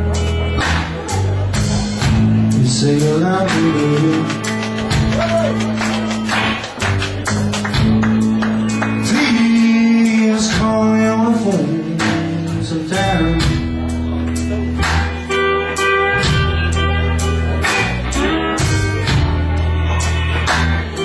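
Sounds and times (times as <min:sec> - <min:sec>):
drums: 0:00.0 - 0:21.0
electric guitar bending notes: 0:00.0 - 0:21.0
low bass notes: 0:00.0 - 0:21.0.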